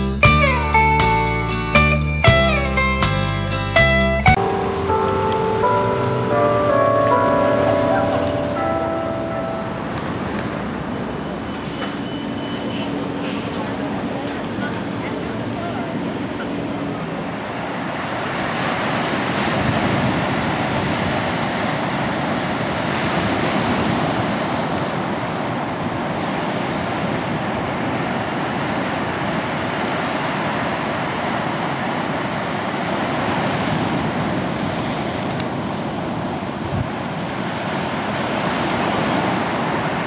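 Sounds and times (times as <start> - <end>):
ocean waves breaking: 4.4 - 40.0.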